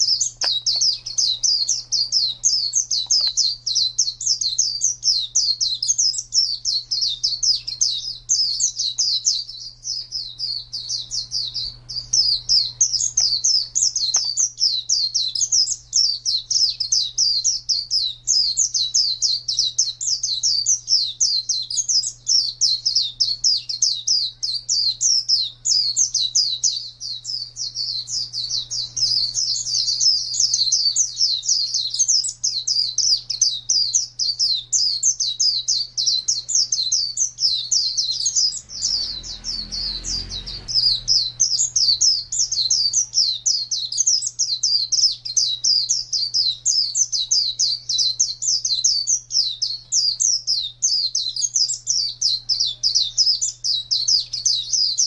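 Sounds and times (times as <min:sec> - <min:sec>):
bird chirping song: 0:00.0 - 0:55.0.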